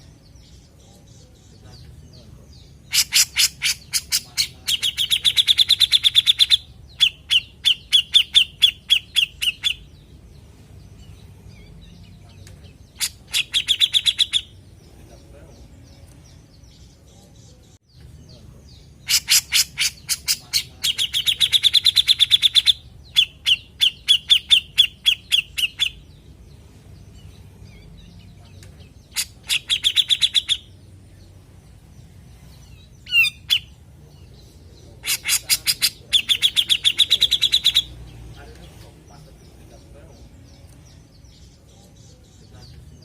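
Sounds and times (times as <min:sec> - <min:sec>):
bulbul chattering calls and trill: 0:00.0 - 0:10.1, 0:11.0 - 0:16.0, 0:18.2 - 0:26.3, 0:27.2 - 0:31.3, 0:32.6 - 0:43.0.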